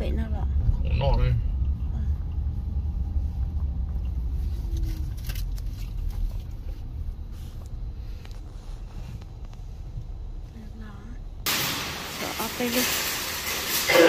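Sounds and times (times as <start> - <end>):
car engine and tyres rumbling: 0.0 - 11.5.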